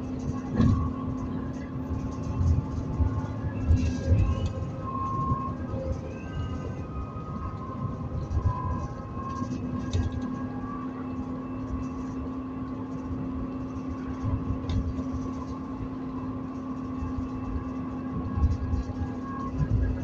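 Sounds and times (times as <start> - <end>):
bus engine drone with whine: 0.0 - 20.0
road rumble: 0.0 - 20.0.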